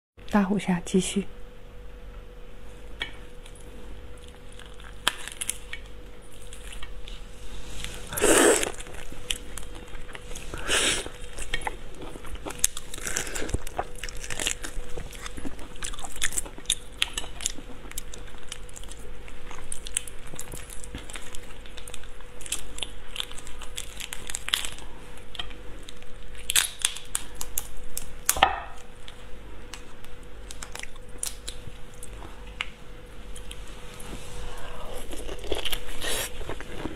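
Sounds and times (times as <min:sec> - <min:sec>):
faint steady hum: 0:00.2 - 0:36.9
close-up chewing: 0:03.0 - 0:36.9.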